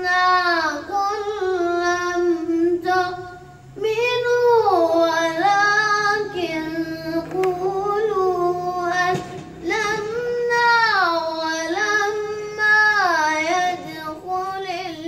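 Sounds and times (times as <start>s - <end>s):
boy reciting melodically: 0.0s - 15.0s.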